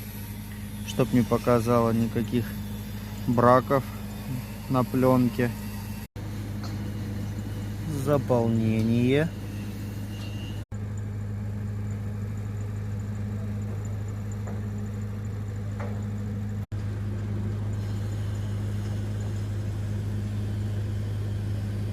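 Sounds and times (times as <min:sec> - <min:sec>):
welding machine humming: 0:00.0 - 0:21.9.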